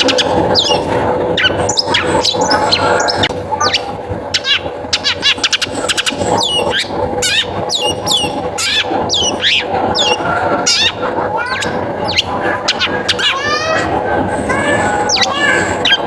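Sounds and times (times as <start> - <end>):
bird song with harsh whistles: 0.0 - 13.8, 15.0 - 16.0
other bird calls: 0.0 - 16.0.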